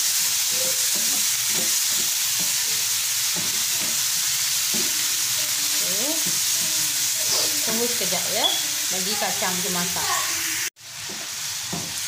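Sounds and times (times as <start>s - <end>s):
green beans sizzling in frying pan: 0.0s - 12.0s.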